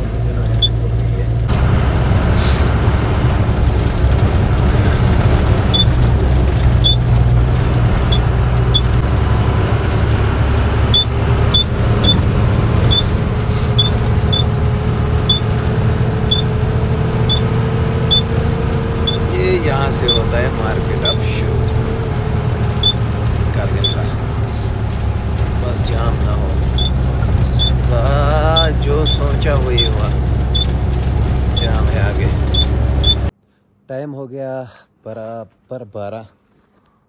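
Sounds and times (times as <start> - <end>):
road noise: 0.0 - 33.4
truck engine rumble: 0.0 - 33.4.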